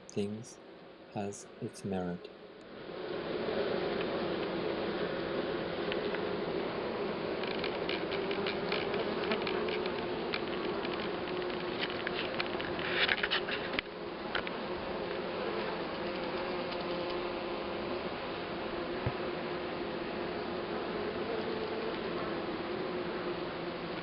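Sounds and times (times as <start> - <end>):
bees buzzing: 1.4 - 24.0.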